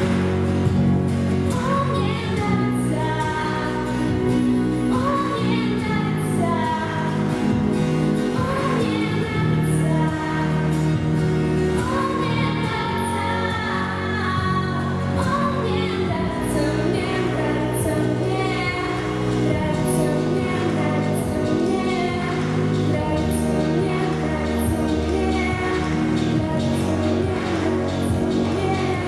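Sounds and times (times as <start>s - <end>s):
woman singing with vibrato: 0.0s - 29.0s.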